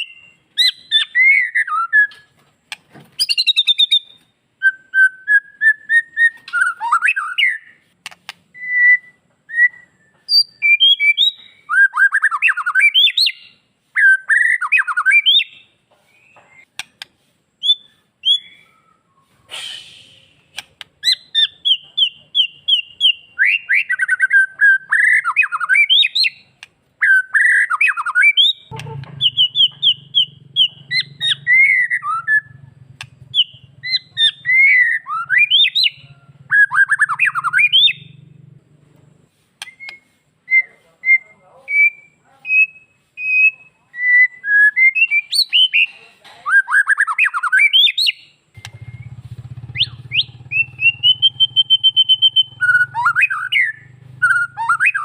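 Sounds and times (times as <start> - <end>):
songbird singing whistled phrases: 0.0 - 2.4, 3.2 - 17.0, 17.6 - 38.4, 39.6 - 55.0.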